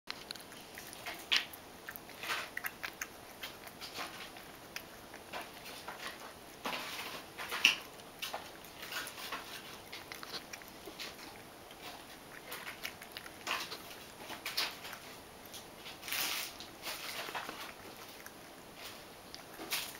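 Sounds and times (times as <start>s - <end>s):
cat crunching dry kibble: 0.1s - 19.9s.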